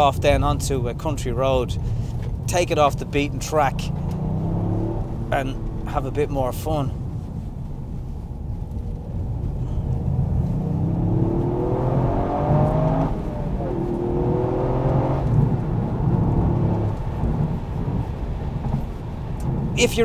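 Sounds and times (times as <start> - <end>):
road and tyre rumble: 0.0 - 20.0
car engine accelerating hard: 2.5 - 20.0.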